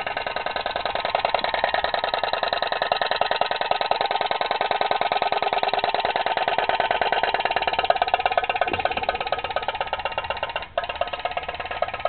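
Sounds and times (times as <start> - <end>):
toy boat engine popping: 0.0 - 12.0.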